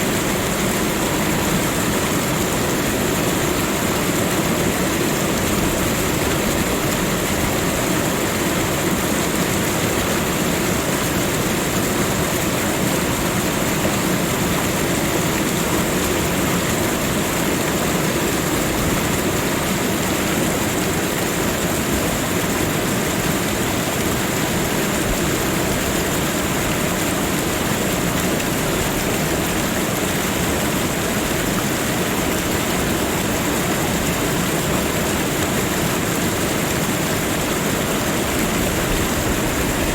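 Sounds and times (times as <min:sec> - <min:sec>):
waterfall roar: 0:00.0 - 0:39.9.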